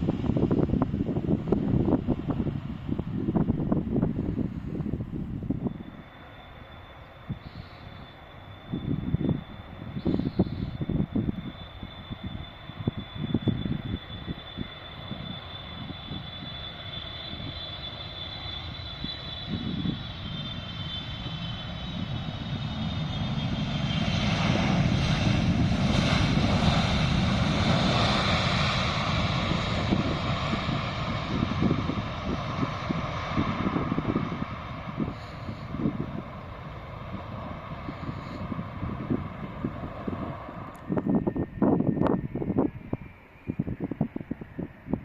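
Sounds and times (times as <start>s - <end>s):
wind buffeting microphone: 0.0s - 6.1s, 7.3s - 45.0s
jet airliner engine whine: 0.0s - 45.0s.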